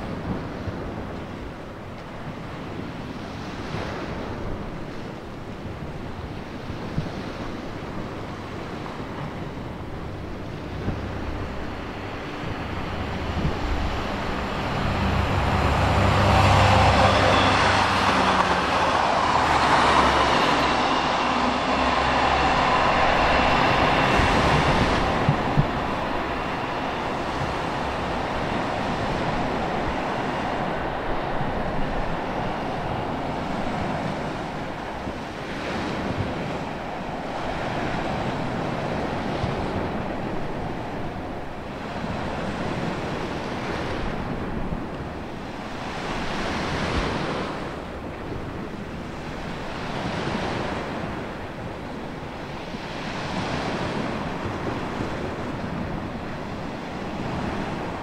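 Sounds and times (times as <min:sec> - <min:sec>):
diesel train passing: 0:00.0 - 0:58.0
sea waves: 0:00.0 - 0:58.0
wind on microphone: 0:00.0 - 0:58.0.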